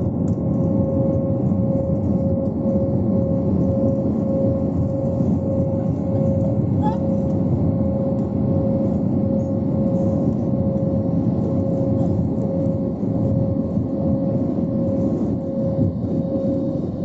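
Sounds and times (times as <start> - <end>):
aircraft engine and airflow rumble: 0.0 - 17.0.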